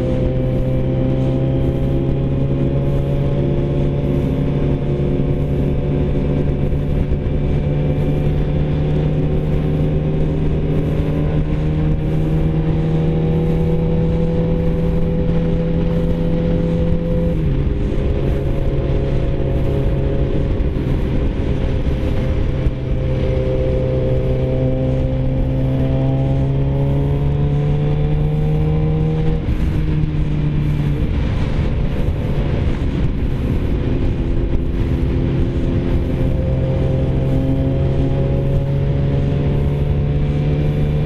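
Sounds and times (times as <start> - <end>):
motorcycle engine running: 0.0 - 41.0
wind rushing over microphone: 0.0 - 41.0.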